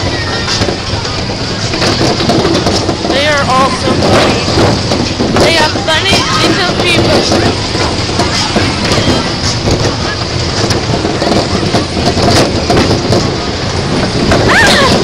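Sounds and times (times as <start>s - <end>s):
amusement ride machinery running: 0.0s - 15.0s.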